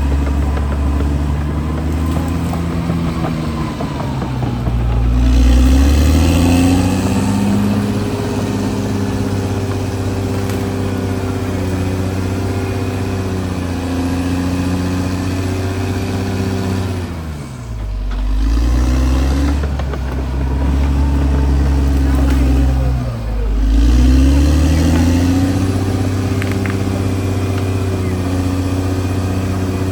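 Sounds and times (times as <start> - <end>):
bulldozer diesel engine running: 0.0 - 29.9.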